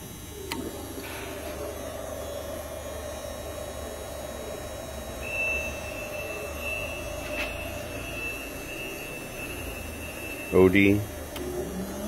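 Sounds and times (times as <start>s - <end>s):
grinder motor humming: 0.3s - 12.0s.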